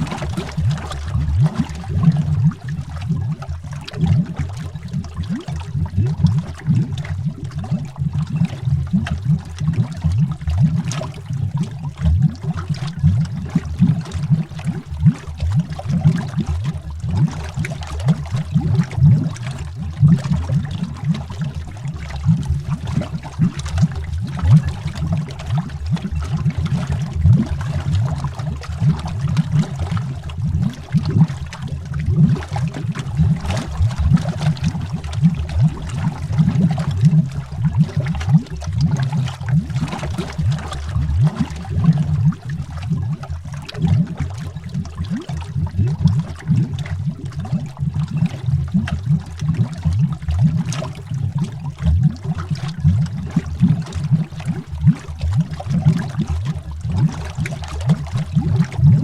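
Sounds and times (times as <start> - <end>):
underwater bubbling: 0.0 - 59.0.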